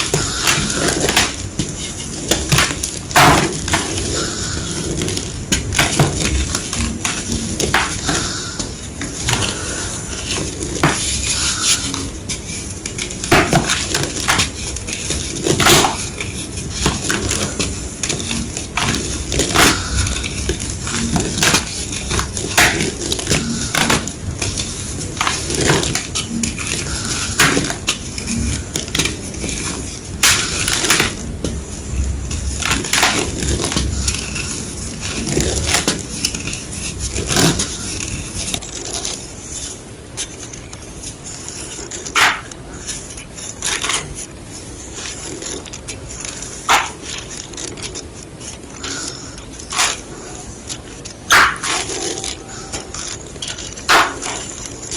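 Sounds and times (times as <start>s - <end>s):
chalk crunching: 0.0s - 54.9s.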